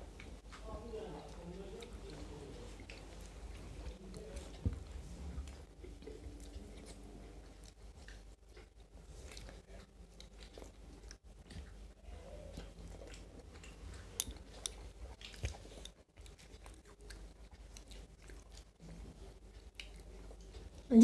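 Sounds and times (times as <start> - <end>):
faint chewing and mouth sounds: 0.0 - 21.0
low steady hum: 0.0 - 21.0.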